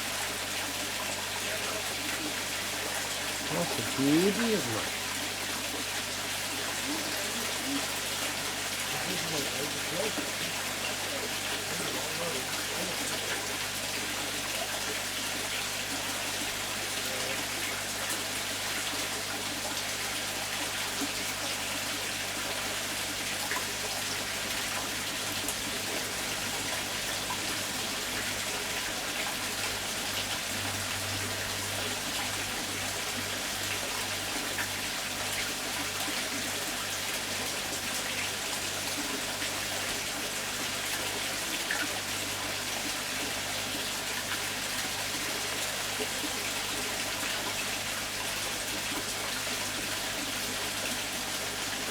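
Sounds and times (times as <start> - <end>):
pond water running and splashing: 0.0 - 51.9.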